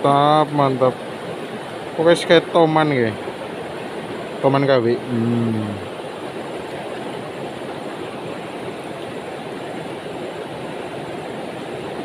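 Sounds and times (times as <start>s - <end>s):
fast-flowing river rushing: 0.0s - 12.0s.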